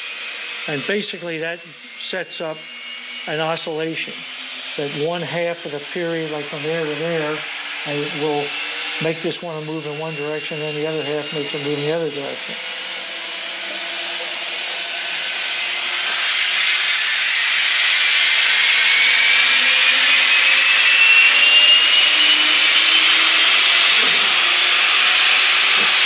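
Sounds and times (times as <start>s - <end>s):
gyro whine rising in pitch: 0.0s - 26.0s.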